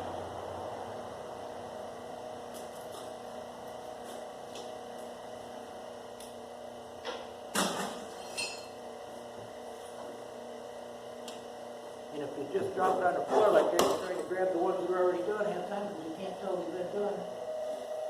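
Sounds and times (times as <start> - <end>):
wire stripper machine humming: 0.0 - 18.0.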